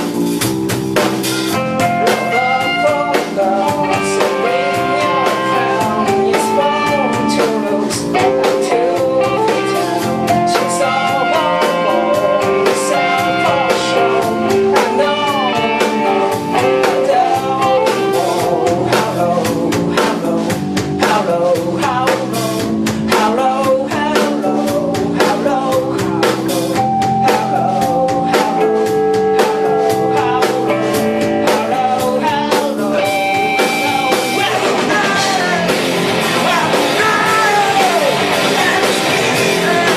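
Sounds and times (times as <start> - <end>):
drum kit: 0.0 - 39.9
electric guitar: 0.0 - 39.9
person singing: 1.5 - 39.9.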